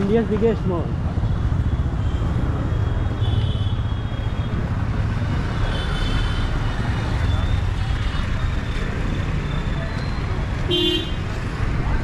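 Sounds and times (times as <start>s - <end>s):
traffic engines and road noise: 0.0s - 12.0s.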